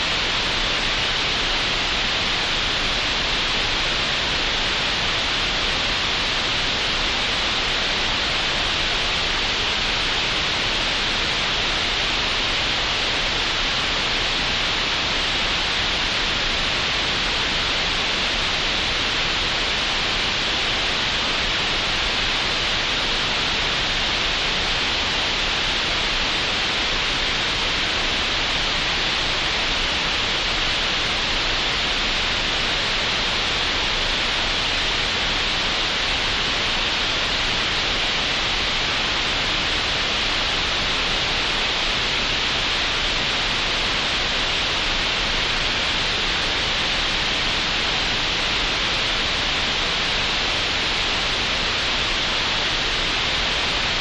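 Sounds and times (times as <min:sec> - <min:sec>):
steady synthetic hiss: 0:00.0 - 0:54.0.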